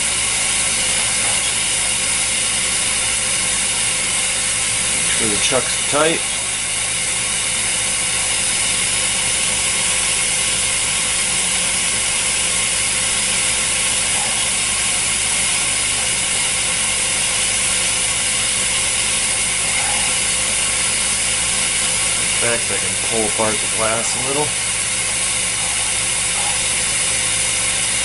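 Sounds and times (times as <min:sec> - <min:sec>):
machine hum: 0:00.0 - 0:28.0
torch flame hissing: 0:00.0 - 0:28.0.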